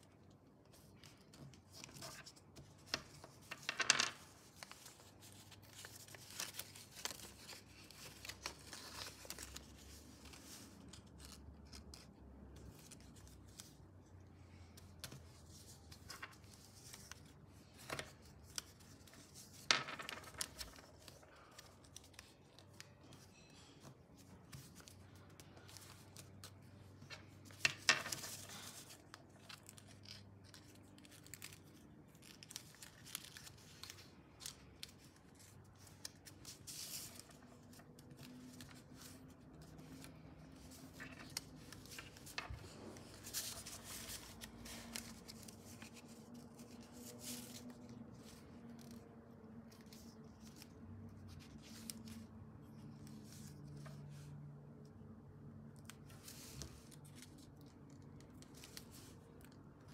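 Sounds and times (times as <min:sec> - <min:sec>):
paper rustling and crinkling: 0:00.2 - 0:54.4, 0:55.8 - 0:59.9.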